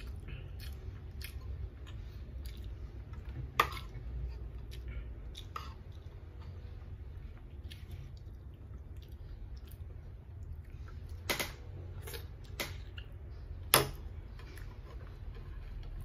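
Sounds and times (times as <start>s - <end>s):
low steady hum: 0.0s - 16.0s
man chewing food: 0.0s - 16.0s.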